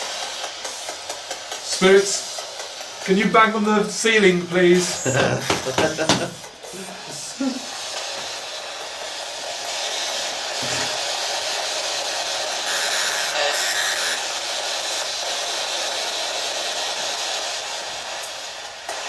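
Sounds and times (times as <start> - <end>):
steady static hiss: 0.0 - 19.0.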